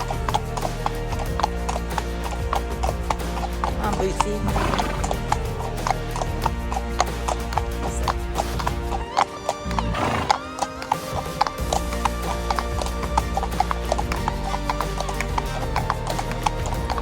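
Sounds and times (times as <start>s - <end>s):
background music with held chords: 0.0s - 17.0s
horse hooves clopping: 0.0s - 17.0s.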